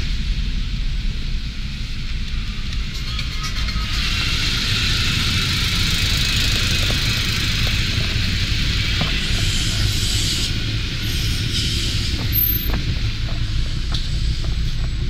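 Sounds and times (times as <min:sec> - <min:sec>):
car engine and tyre rumble: 0:00.0 - 0:15.0
road hiss: 0:00.0 - 0:15.0.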